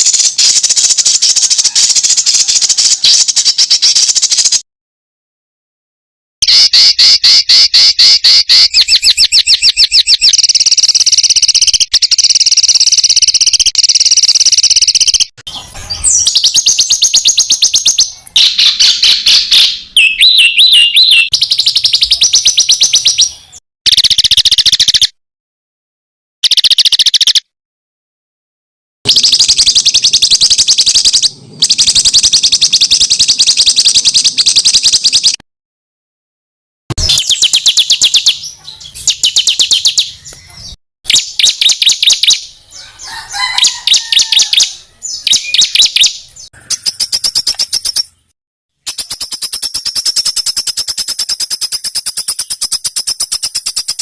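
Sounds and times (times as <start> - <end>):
songbird rapid chips and trills: 0.0 - 4.6, 6.4 - 25.1, 26.4 - 27.4, 29.1 - 35.4, 37.0 - 42.6, 43.4 - 48.2, 48.8 - 54.0.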